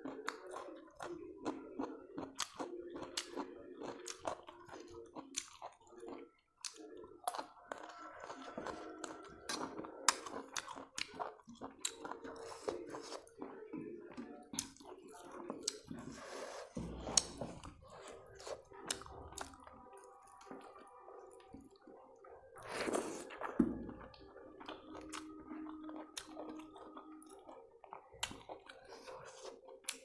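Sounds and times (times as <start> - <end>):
chewing with clicks and smacks: 0.0 - 16.3, 17.0 - 30.0.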